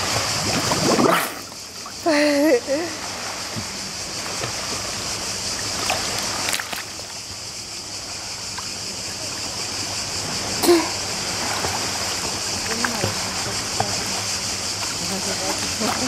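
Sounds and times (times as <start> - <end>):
steady high hiss: 0.0 - 16.0
water splashing: 0.0 - 16.0.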